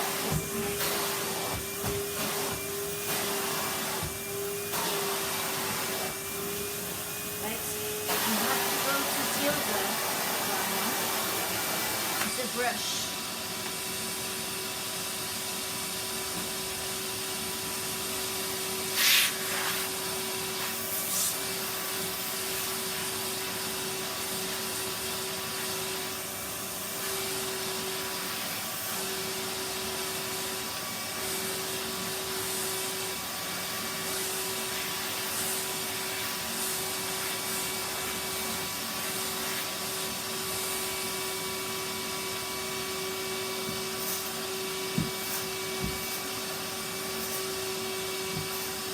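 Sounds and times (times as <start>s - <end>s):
vacuum cleaner on fabric sofa: 0.0s - 48.9s.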